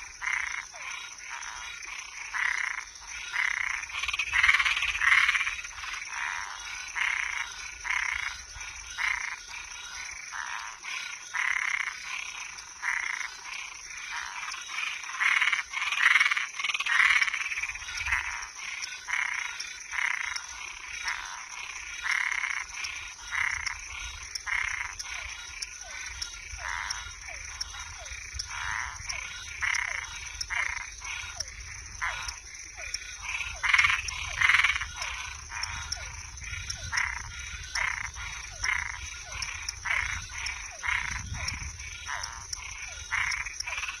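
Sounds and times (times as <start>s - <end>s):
frogs calling: 0.0s - 44.0s.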